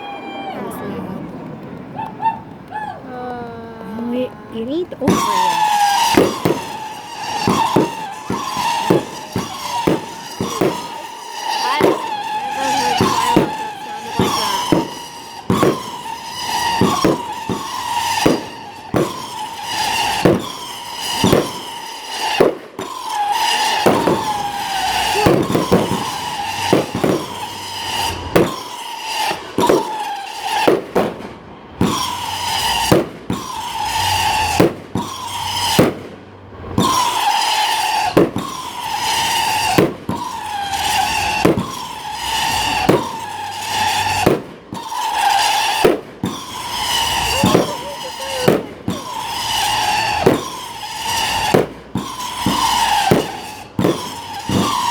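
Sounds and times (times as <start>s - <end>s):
firework bangs: 0.0s - 54.9s
whistling firework shells: 0.0s - 54.9s.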